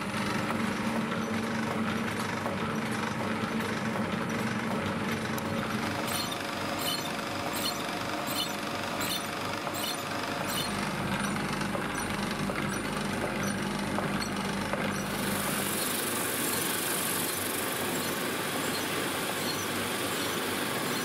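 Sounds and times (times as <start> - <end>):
drill press running: 0.0 - 21.0.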